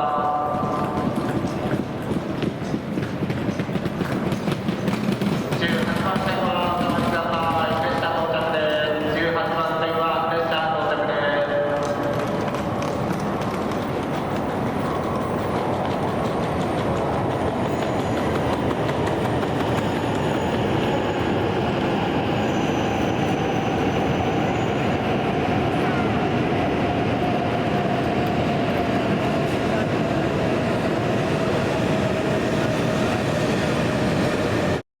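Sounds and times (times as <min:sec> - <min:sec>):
high-speed train rushing: 0:00.0 - 0:34.8.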